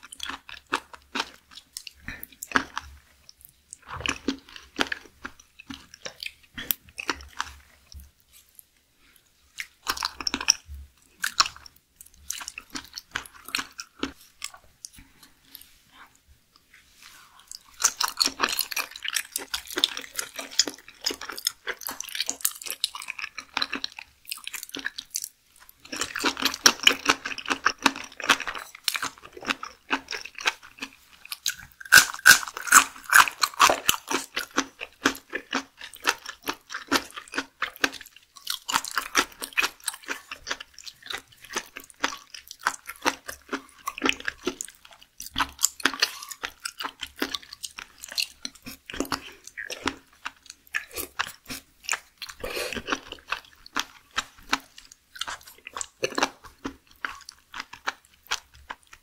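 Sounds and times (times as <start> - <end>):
person chewing raw seafood: 0.0 - 8.7, 9.5 - 15.8, 17.3 - 59.0.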